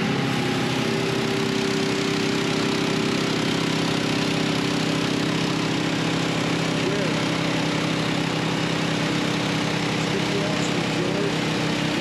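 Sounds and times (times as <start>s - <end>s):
gasoline engine running: 0.0s - 12.0s.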